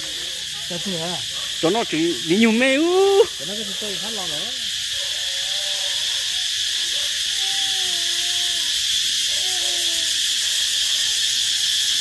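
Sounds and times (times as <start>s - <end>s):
shrill insect chorus: 0.0s - 12.0s.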